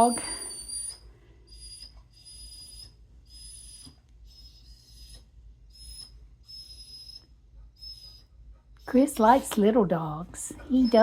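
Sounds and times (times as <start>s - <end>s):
dog whining: 0.0s - 9.0s, 10.6s - 11.0s.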